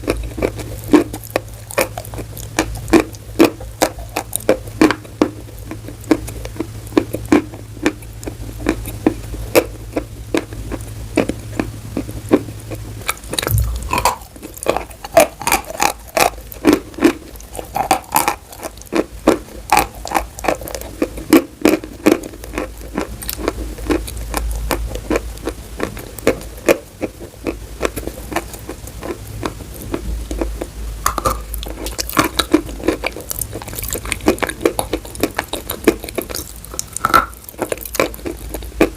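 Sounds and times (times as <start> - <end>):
chalk crunching being chewed: 0.0 - 38.9.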